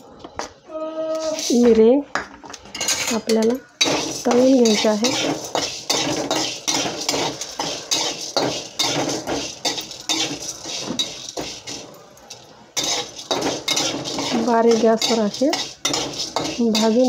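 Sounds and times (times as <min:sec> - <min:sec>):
metal spatula scraping spices: 0:01.2 - 0:01.6, 0:02.8 - 0:17.0.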